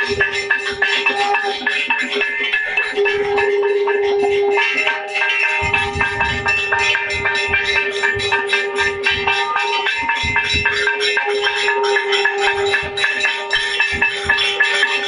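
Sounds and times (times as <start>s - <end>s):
bells and cymbals clanging: 0.0s - 15.0s
drum beats: 0.0s - 15.0s
steady held tone: 0.0s - 15.0s.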